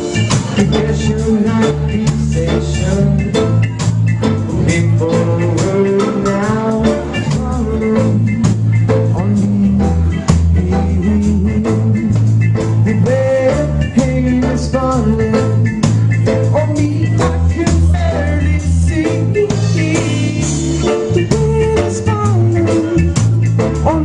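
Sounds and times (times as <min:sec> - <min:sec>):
live band playing: 0:00.0 - 0:24.0
person singing: 0:00.0 - 0:24.0.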